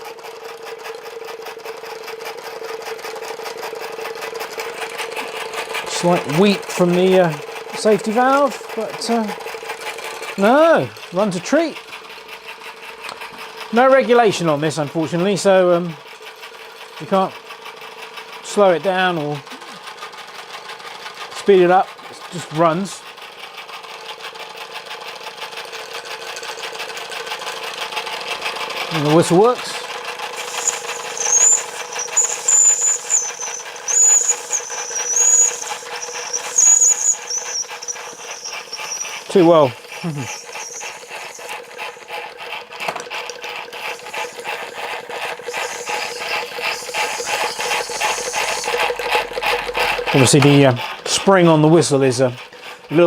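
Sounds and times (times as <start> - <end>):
gearing rattle: 0.0 - 53.0
model steam engine clattering: 0.0 - 53.0.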